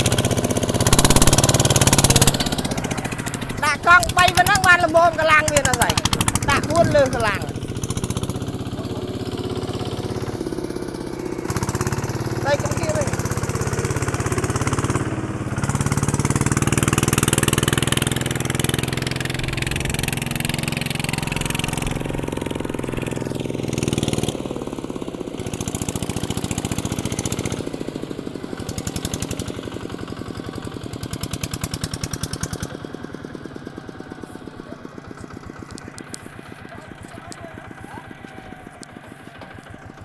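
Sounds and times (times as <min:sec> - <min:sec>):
diesel engine running under load: 0:00.0 - 0:40.0
plough churning through mud: 0:00.0 - 0:40.0.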